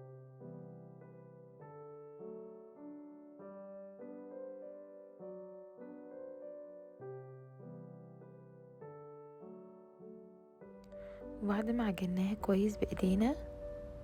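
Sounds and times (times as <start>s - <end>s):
soft piano chords: 0.0s - 14.0s.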